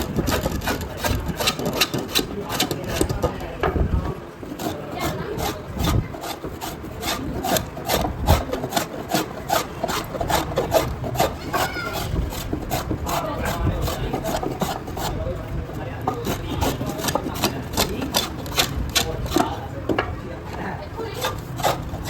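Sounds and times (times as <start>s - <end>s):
hand rasp scraping wood: 0.0s - 20.0s, 20.9s - 22.0s.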